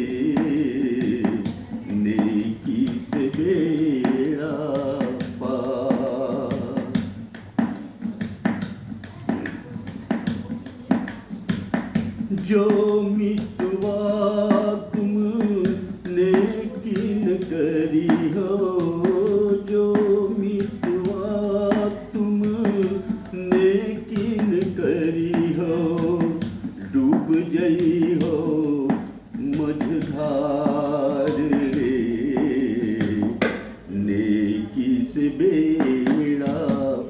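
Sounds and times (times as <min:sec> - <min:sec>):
man singing: 0:00.0 - 0:08.6, 0:10.2 - 0:37.0
steady tapping beat: 0:00.0 - 0:37.0.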